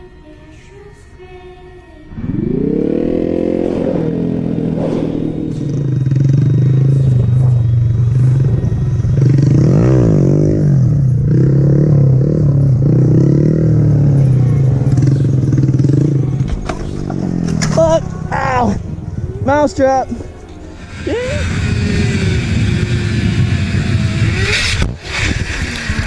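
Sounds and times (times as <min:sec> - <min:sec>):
engine tone sweeping up and down: 0:02.1 - 0:26.0
motorcycle engine running: 0:02.2 - 0:26.0.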